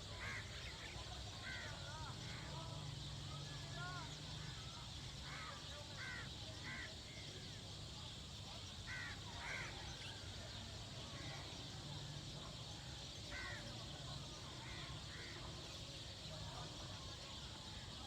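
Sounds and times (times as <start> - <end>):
birds harsh calls: 0.0 - 18.0.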